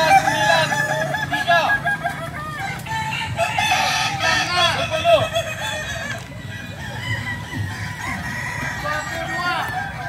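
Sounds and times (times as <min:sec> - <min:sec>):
roosters crowing: 0:00.0 - 0:10.0.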